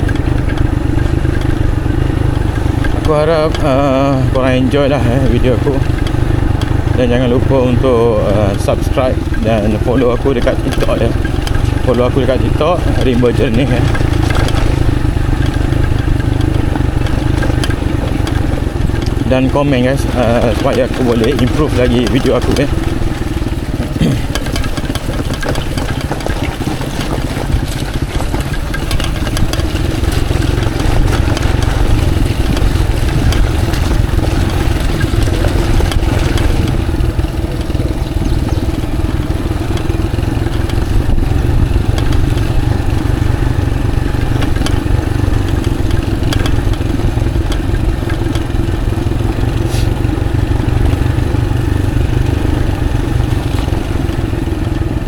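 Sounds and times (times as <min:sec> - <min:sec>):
motorcycle engine running: 0:00.0 - 0:55.0
wind and road noise rumble: 0:00.0 - 0:55.0.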